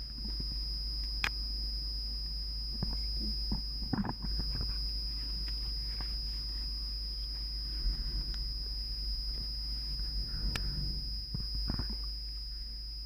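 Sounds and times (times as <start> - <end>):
faint high-pitched whine: 0.0 - 13.0
low electrical hum: 0.0 - 13.0.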